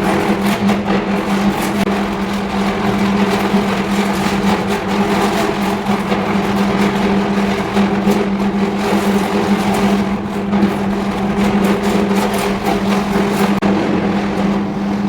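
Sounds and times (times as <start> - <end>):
electric furnace buzzing hum: 0.0 - 15.0.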